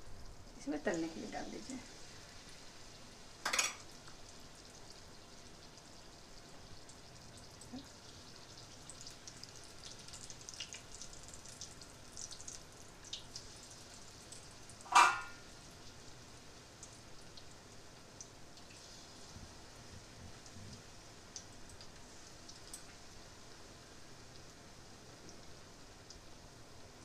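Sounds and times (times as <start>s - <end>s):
food frying in hot oil: 0.0s - 27.0s.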